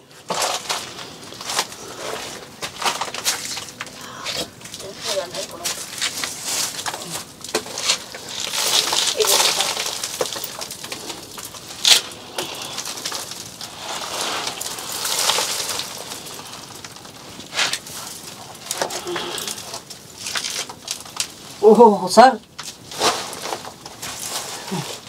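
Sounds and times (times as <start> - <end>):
clothes brushing rough stone: 0.1 - 21.5, 22.6 - 25.0.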